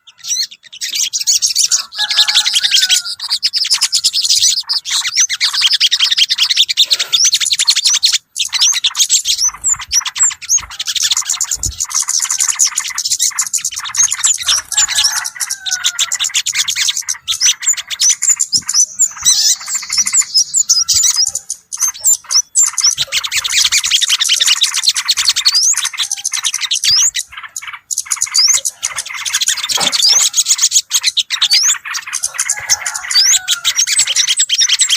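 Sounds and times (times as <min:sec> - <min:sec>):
bulbul calls: 0:00.0 - 0:34.9
small birds chirping and twittering: 0:00.0 - 0:34.9.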